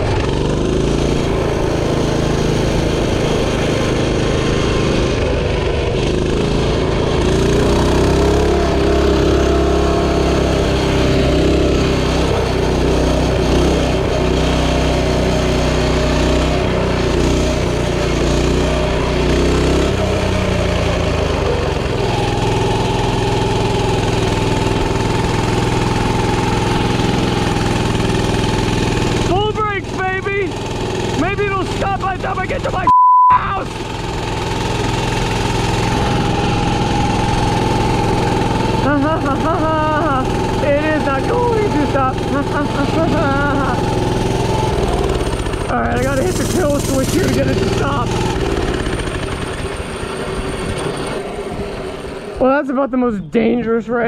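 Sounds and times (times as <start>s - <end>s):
small engine running fast: 0.0s - 54.0s.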